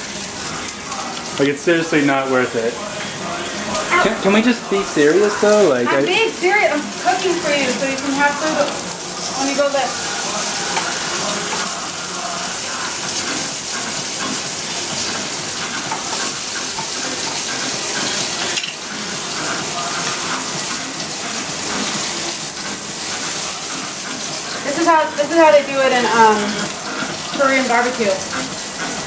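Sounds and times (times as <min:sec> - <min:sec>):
food sizzling in oil: 0:00.0 - 0:29.0.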